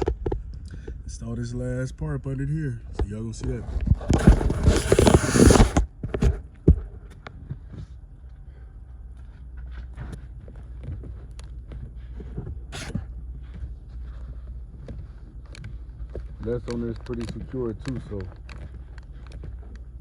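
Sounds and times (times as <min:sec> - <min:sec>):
low steady hum: 0:00.0 - 0:20.0
faint clicks and rubbing: 0:03.4 - 0:08.6, 0:09.2 - 0:20.0
rustle and scrape: 0:03.4 - 0:20.0.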